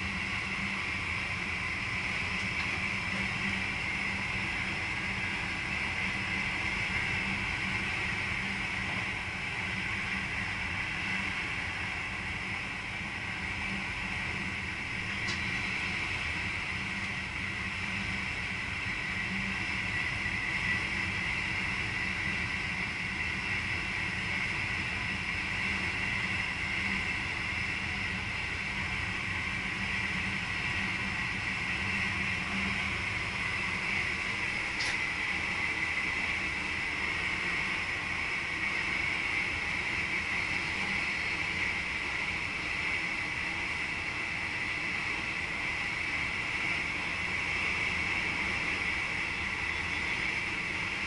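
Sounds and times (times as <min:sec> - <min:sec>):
constant hum: 0:00.0 - 0:51.0
train running gear rumble and hiss: 0:00.0 - 0:51.0.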